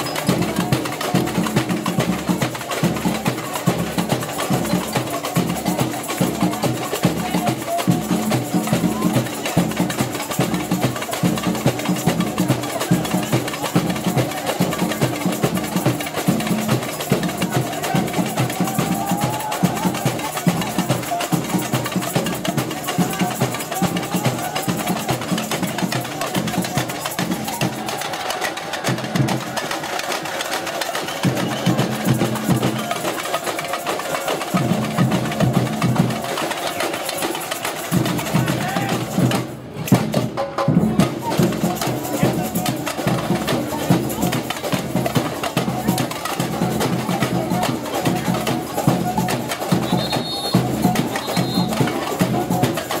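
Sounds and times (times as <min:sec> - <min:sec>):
fast drum beat: 0:00.0 - 0:53.0.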